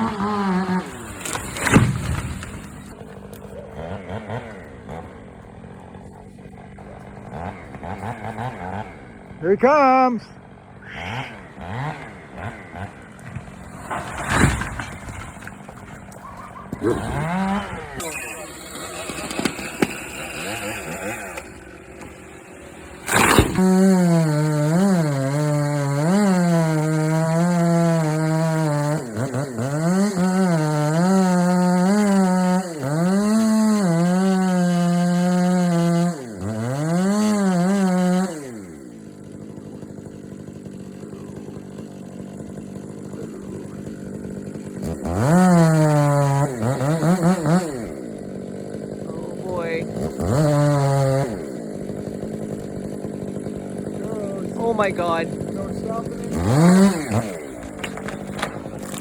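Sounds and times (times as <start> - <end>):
chainsaw engine revving and idling: 0.0 - 59.0.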